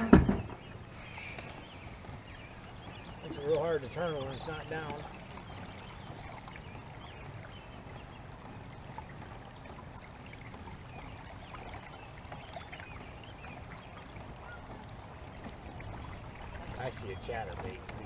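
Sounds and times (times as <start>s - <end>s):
birds chirping: 0.0s - 18.0s
low rumble of water: 0.0s - 18.0s
wind: 0.0s - 18.0s.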